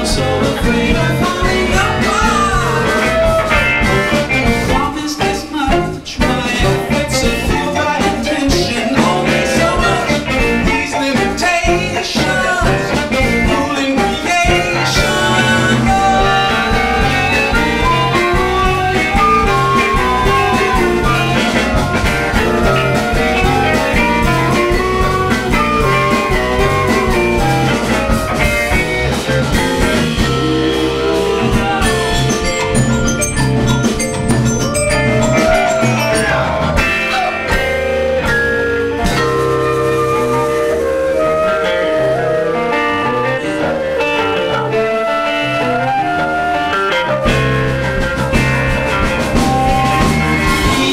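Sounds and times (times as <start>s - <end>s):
blues-rock band playing: 0.0s - 50.9s
sliding melody line: 6.4s - 50.9s.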